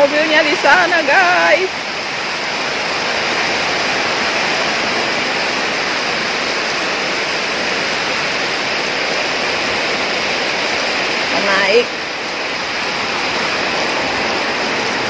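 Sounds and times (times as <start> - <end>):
heavy rain on a metal roof: 0.0 - 15.0.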